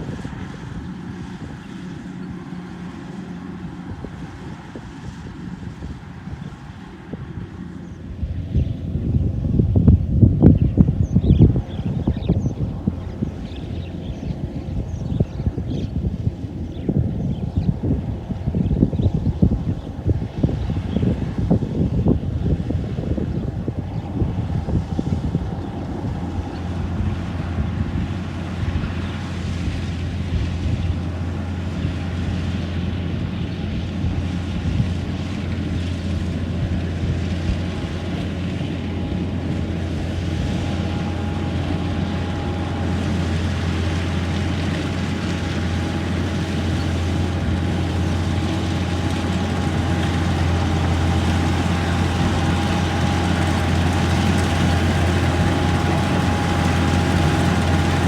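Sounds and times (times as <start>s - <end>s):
harvester engine hum: 0.0s - 58.0s.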